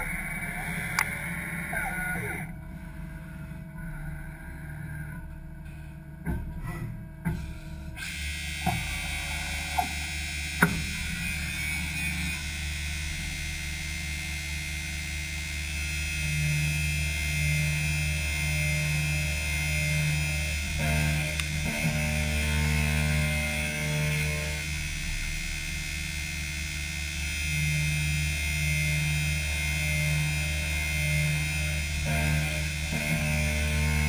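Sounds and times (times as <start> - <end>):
lathe humming and whining: 0.0 - 6.3, 6.9 - 34.0
low tone: 0.0 - 34.0.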